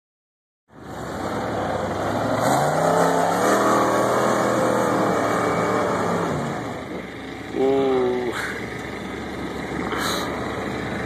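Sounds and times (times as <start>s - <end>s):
off-road vehicle engine revving: 0.8s - 11.0s.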